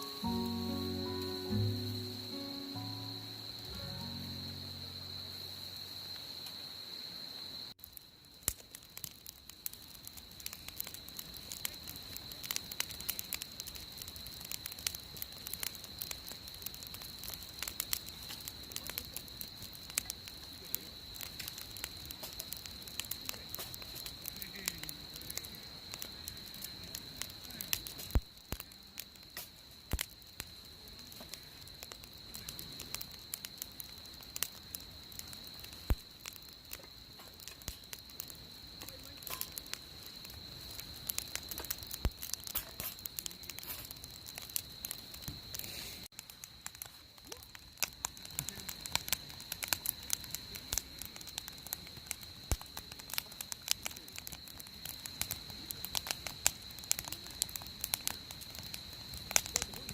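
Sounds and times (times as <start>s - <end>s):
wood fire crackling and popping: 0.0s - 6.7s, 7.6s - 59.9s.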